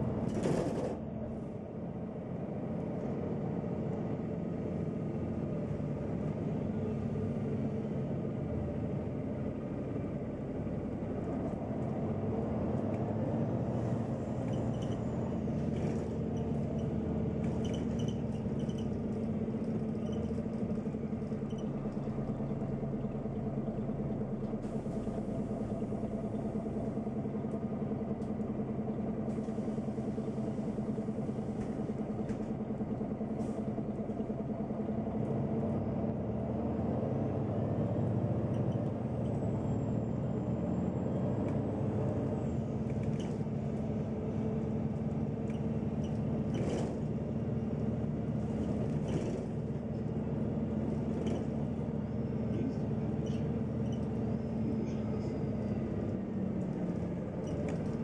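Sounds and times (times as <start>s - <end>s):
bus engine humming: 0.0s - 58.0s.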